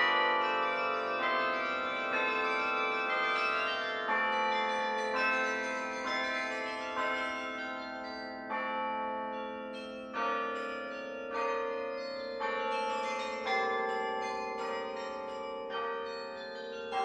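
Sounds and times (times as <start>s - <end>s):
carillon bells ringing: 0.0s - 17.0s.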